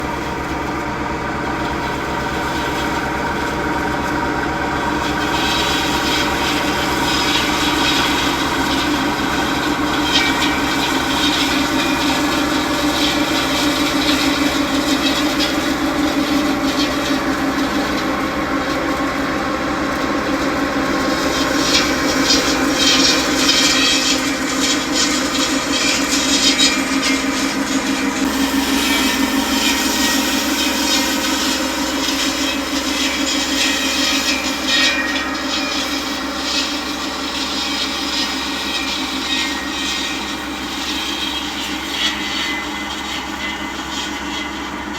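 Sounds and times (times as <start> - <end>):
tractor diesel engine running: 0.0 - 39.2.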